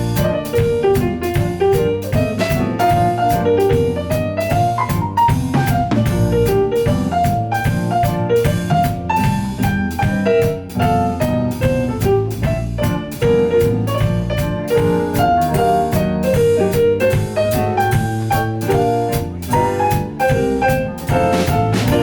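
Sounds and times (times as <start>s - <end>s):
drum kit beat: 0.0s - 22.0s
jazz melody: 0.0s - 22.0s
piano chords: 0.0s - 22.0s.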